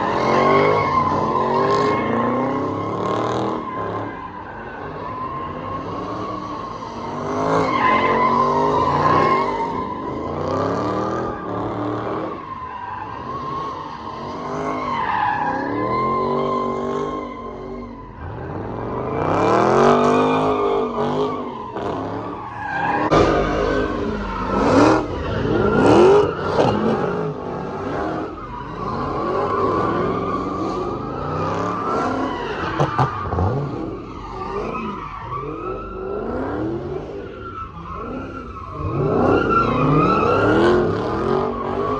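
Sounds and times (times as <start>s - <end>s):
car engines revving: 0.0s - 41.9s
tires squealing: 0.0s - 41.9s.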